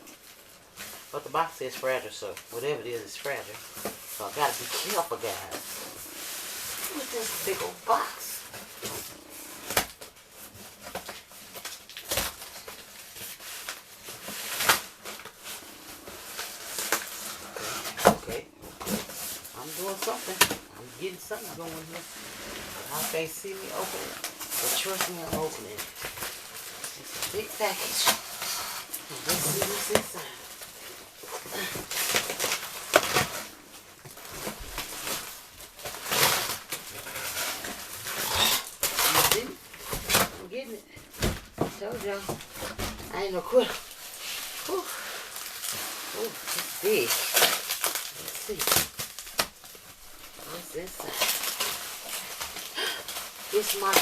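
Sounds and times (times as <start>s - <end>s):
cardboard and tape rustling: 0.0s - 54.0s.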